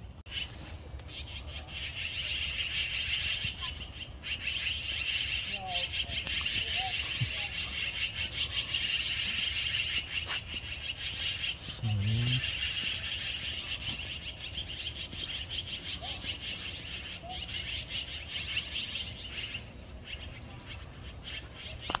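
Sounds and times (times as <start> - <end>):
magpies chattering: 0.3 - 22.0.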